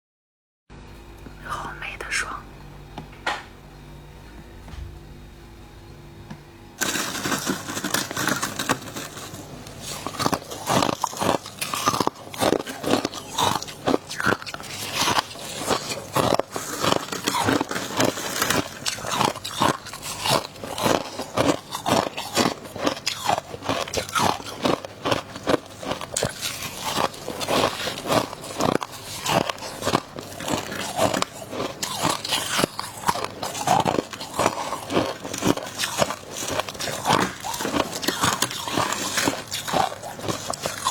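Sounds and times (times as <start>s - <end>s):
freezer frost crunching: 6.8s - 40.9s.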